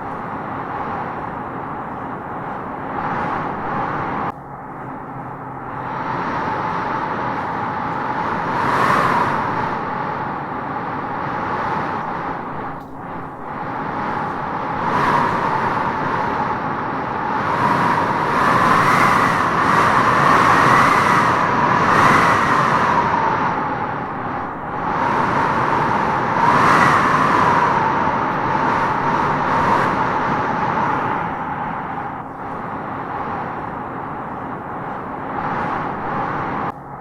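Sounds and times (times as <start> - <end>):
wind howling through trees: 0.0 - 37.0.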